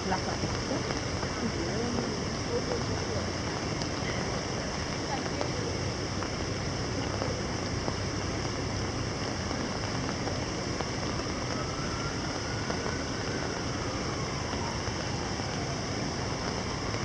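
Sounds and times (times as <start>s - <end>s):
distant city hum: 0.0s - 17.0s
rain falling on water: 0.0s - 17.0s.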